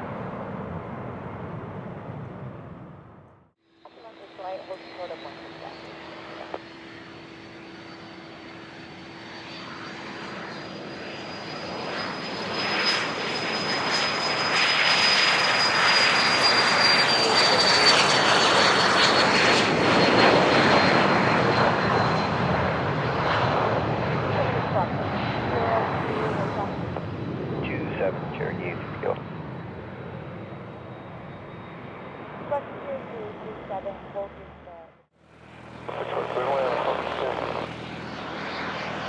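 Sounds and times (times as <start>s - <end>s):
aircraft engine passing close: 0.0s - 39.0s
high engine whine: 0.0s - 39.0s.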